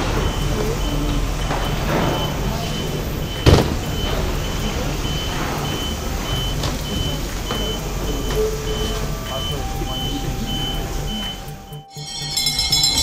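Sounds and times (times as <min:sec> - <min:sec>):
low engine rumble: 0:00.0 - 0:13.0
vehicle warning beeper: 0:00.0 - 0:13.0.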